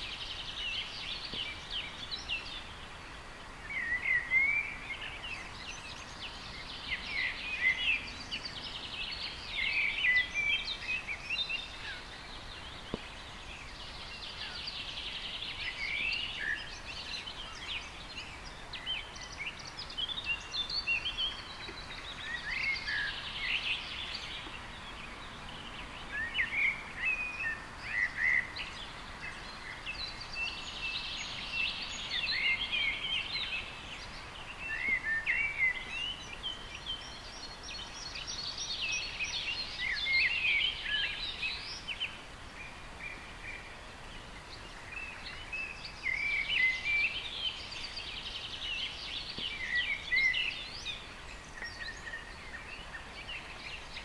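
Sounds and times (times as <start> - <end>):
background hiss: 0.0 - 54.0
birds chirping: 0.0 - 54.0.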